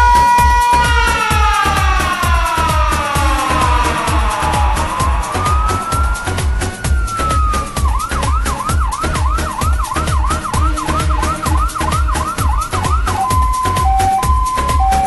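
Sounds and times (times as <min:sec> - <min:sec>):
police siren: 0:00.0 - 0:15.0
dance music beat with kick drum: 0:01.4 - 0:15.0.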